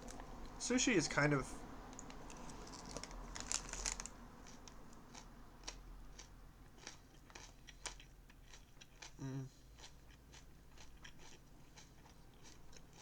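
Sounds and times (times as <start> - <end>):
chewing salad crunches: 2.0 - 13.0.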